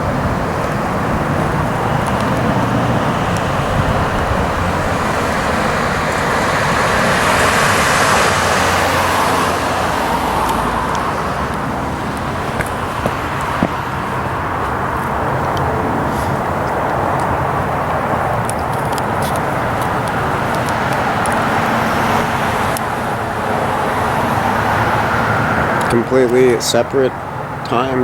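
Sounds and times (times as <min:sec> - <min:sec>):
passing vehicle roar: 0:00.0 - 0:28.0.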